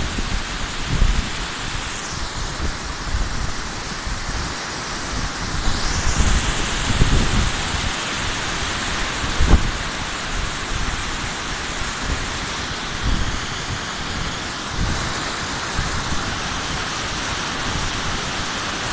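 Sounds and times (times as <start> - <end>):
waterfall roaring: 0.0 - 18.9.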